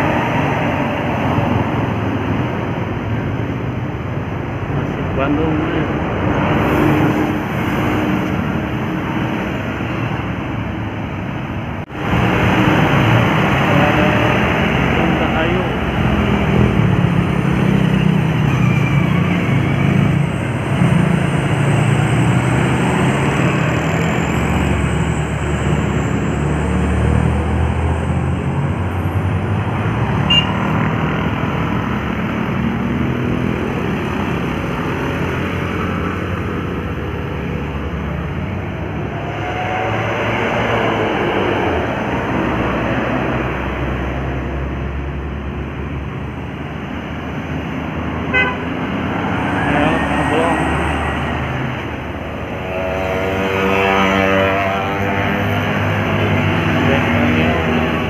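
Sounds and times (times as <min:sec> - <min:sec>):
heavy bus engine: 0:00.0 - 0:58.0
road noise: 0:00.0 - 0:58.0.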